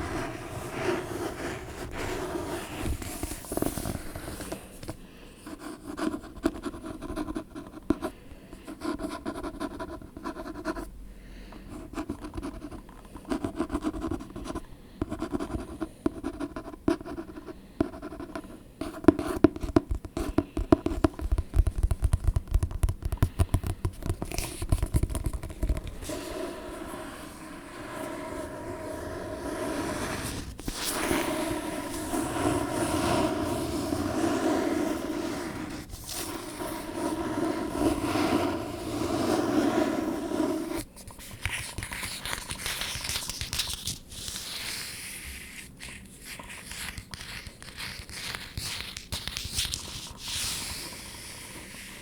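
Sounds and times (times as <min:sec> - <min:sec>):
scratching on an object: 0:00.0 - 0:08.0, 0:18.0 - 0:52.0.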